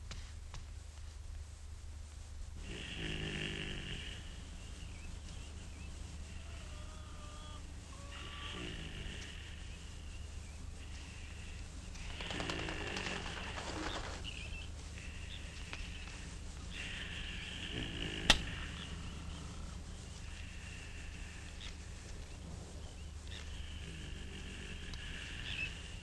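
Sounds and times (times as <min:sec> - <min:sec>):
low hum: 0:00.0 - 0:26.0
birds calling: 0:03.9 - 0:26.0.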